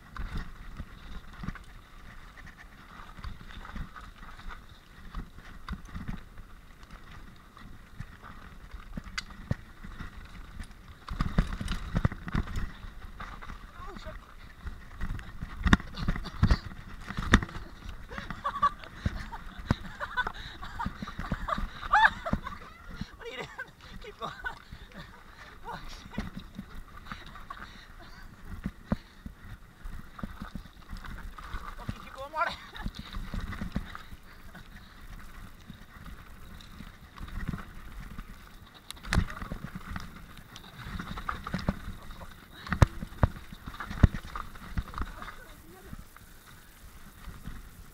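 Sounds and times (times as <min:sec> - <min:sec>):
bike knocking on bumps: 0:00.0 - 0:23.6, 0:25.6 - 0:47.9
mountain bike rattling: 0:00.0 - 0:47.9
tyre and wind rumble: 0:00.0 - 0:47.9.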